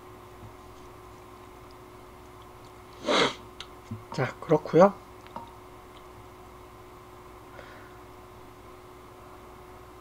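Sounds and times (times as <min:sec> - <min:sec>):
faint constant hum: 0:00.0 - 0:10.0
steady low hiss: 0:00.0 - 0:10.0.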